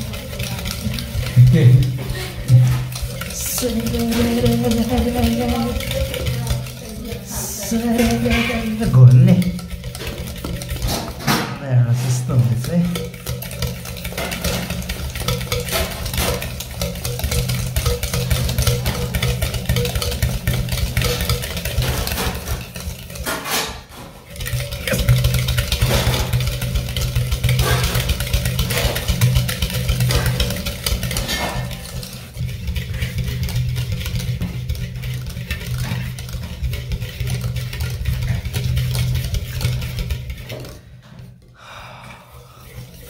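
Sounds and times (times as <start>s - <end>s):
mixer beating eggs in bowl: 0.0s - 43.0s.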